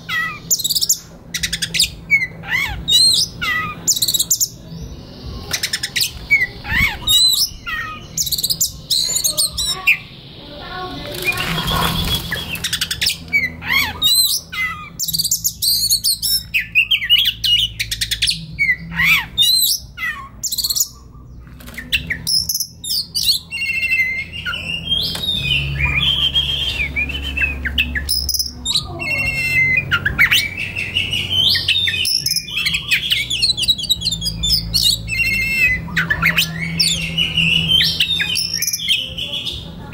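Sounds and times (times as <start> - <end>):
songbird whistling and trilling: 0.0 - 39.7.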